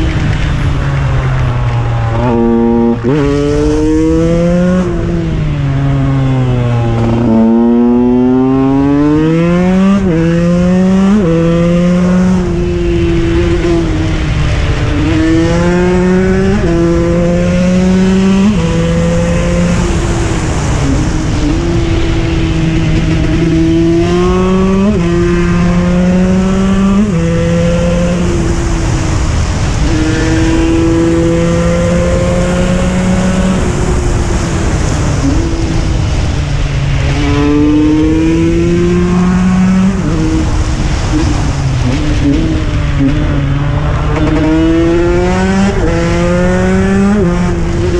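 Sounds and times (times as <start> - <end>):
two-stroke motorcycle engine revving: 2.0 - 47.9.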